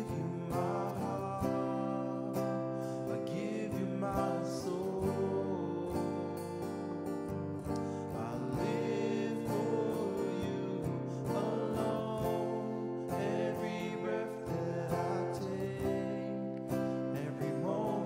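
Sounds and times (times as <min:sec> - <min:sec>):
person singing: 0:00.0 - 0:18.0
strummed acoustic guitar: 0:00.0 - 0:18.0.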